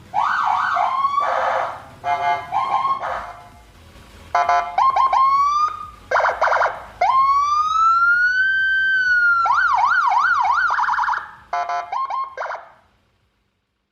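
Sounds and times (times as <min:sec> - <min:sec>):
electronic siren wail and yelp: 0:00.1 - 0:03.5, 0:04.4 - 0:12.7.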